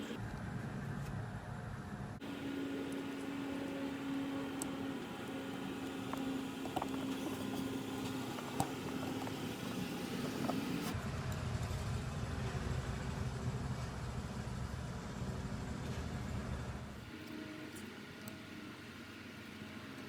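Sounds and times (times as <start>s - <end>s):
mechanical hum with held tone: 0.0s - 20.0s.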